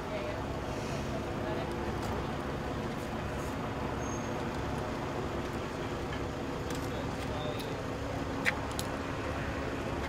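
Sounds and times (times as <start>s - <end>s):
emergency vehicle engines idling: 0.0s - 10.0s.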